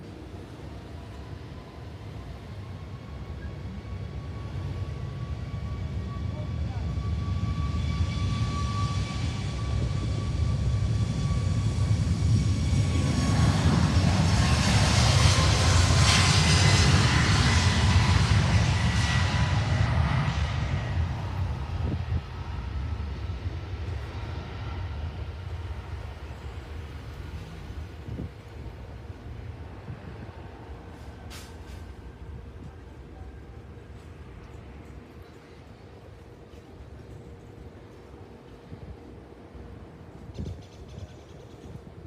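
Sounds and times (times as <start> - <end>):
airliner engines passing: 0.0 - 42.0.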